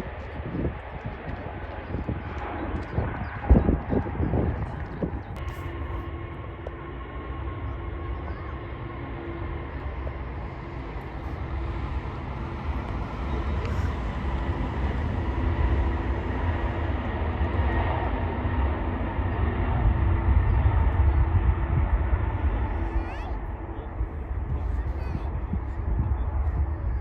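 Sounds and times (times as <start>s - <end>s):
jet engines rumbling with whine: 0.0s - 27.0s.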